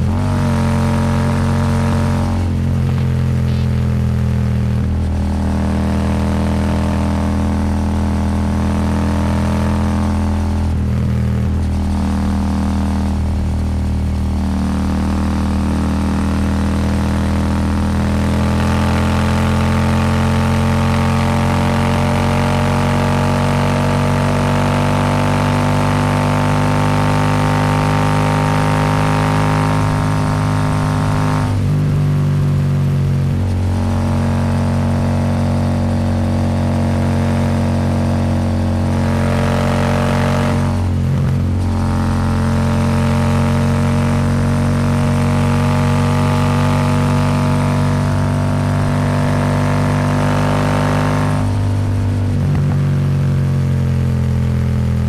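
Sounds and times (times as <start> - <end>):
motorcycle engine under throttle: 0.0 - 55.0.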